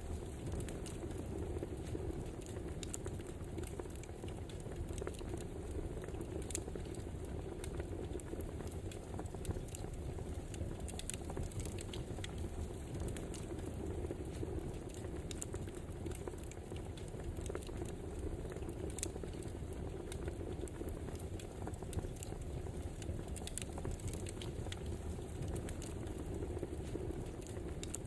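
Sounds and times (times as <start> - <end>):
low rumble of burning logs: 0.0 - 28.0
sharp pops and snaps: 0.0 - 28.0
wood fire crackling: 0.0 - 28.0.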